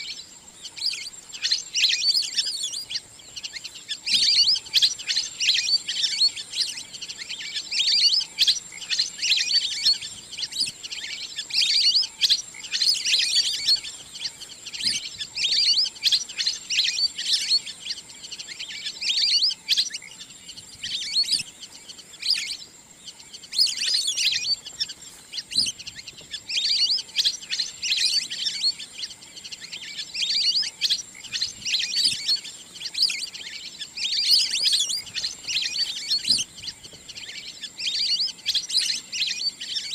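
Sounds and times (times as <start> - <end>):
duck chirping and whistling: 0.0 - 21.6, 23.3 - 39.9.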